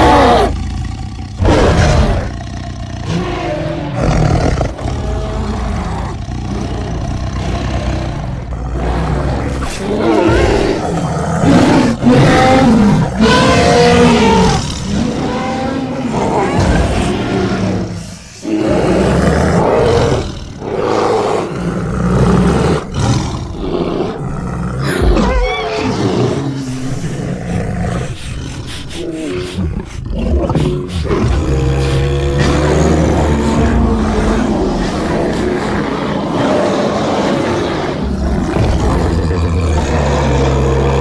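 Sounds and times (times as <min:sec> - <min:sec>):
bear roars and growls: 0:00.0 - 0:41.0.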